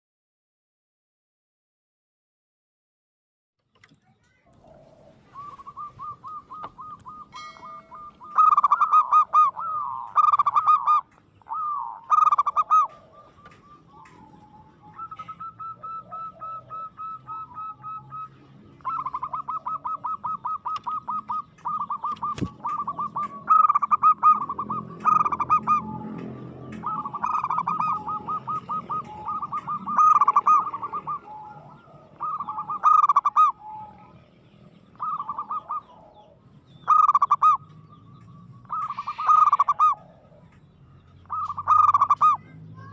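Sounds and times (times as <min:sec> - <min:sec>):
dove cooing: 0:04.5 - 0:42.9.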